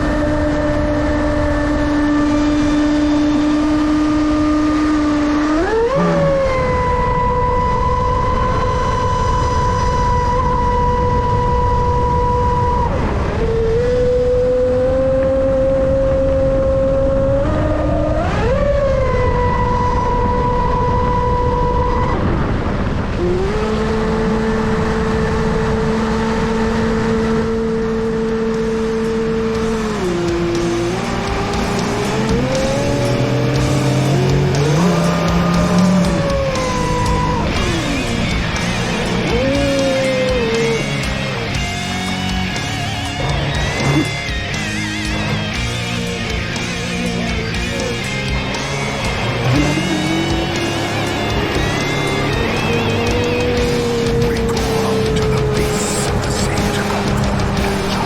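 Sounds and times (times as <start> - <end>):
electric motor whining: 0.0 - 58.0
steady rush of noise: 0.0 - 58.0.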